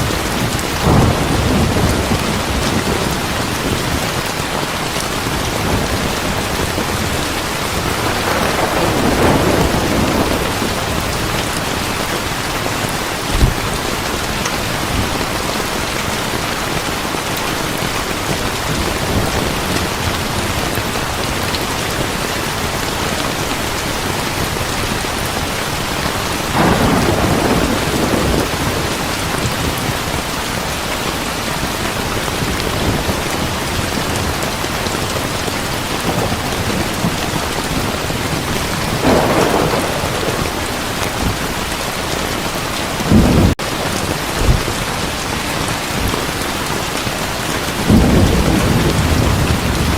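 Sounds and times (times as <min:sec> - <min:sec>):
thunder rumbling: 0:00.0 - 0:16.8, 0:24.1 - 0:30.3, 0:31.6 - 0:46.4, 0:47.6 - 0:49.9
heavy rain falling: 0:00.0 - 0:49.9.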